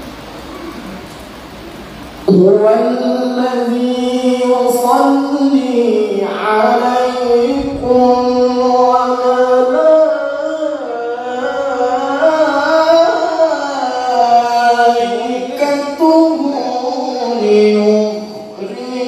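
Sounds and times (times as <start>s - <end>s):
man reciting melodically: 2.2s - 19.0s.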